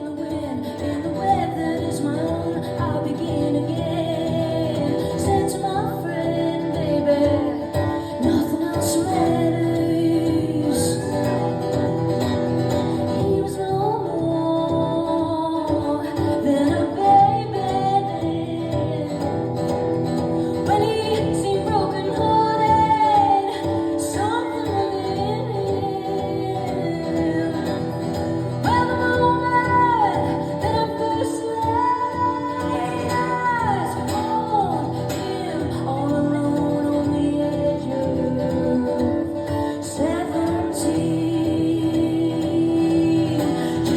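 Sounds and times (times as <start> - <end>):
guitar accompaniment: 0.0 - 43.9
woman singing: 0.0 - 43.9.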